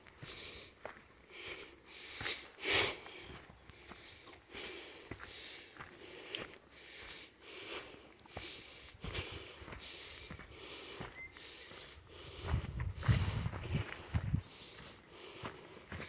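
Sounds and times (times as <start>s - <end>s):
footsteps on forest path: 0.0s - 16.0s
person breathing hard: 0.1s - 16.0s.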